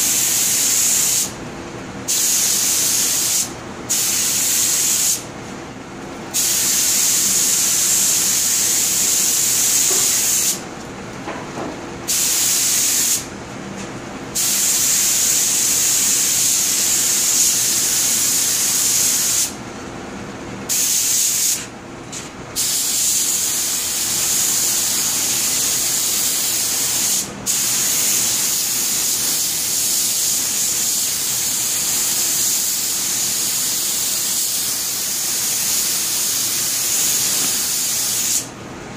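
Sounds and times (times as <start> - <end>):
paint spray gun hissing: 0.1 - 1.4, 2.1 - 5.2, 6.4 - 10.6, 12.1 - 13.3, 14.4 - 19.6, 20.7 - 21.7, 22.6 - 38.5.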